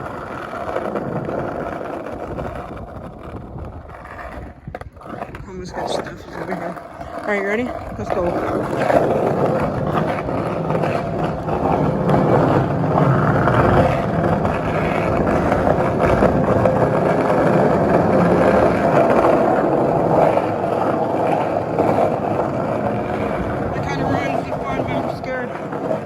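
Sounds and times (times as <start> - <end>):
skateboard wheels rolling on concrete: 0.0 - 26.0.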